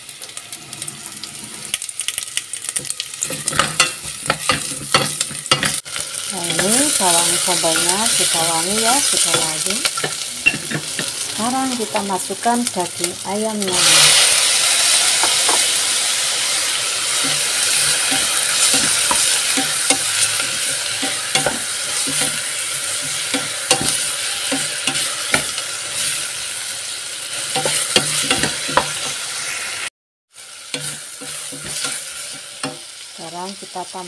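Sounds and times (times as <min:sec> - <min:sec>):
chicken sizzling in hot oil: 0:00.0 - 0:34.0.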